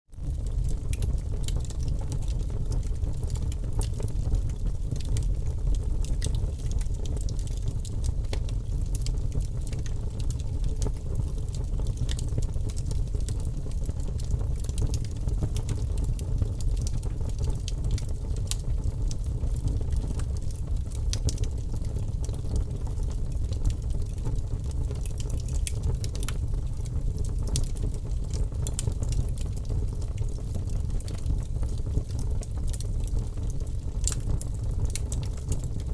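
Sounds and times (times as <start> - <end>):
fire crackling and popping: 0.2 - 35.9
fire rumbling: 0.2 - 35.9.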